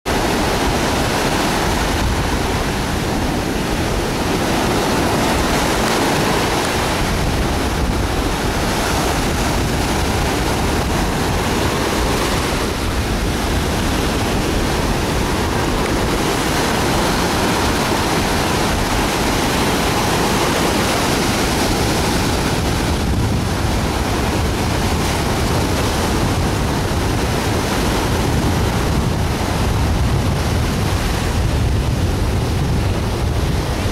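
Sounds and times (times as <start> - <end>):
ocean surf breaking: 0.0 - 33.9
wind buffeting microphone: 0.1 - 33.9.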